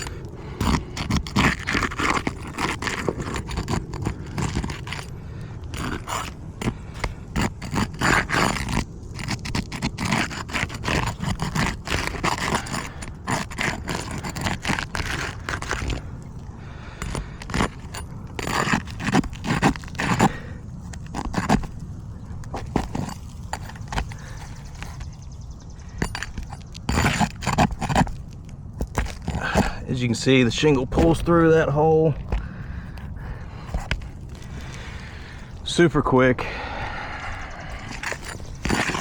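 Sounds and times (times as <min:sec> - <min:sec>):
metal blade scraping shingles: 0:00.0 - 0:31.8, 0:37.3 - 0:39.0.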